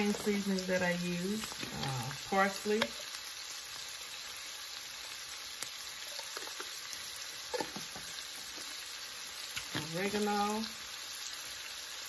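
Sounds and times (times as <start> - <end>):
sausage frying in a pan: 0.0 - 12.0.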